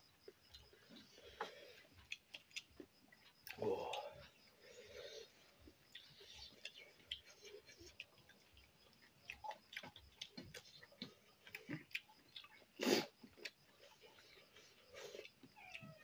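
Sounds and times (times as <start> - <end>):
chewing and lip smacks: 0.2 - 4.3, 5.6 - 16.0.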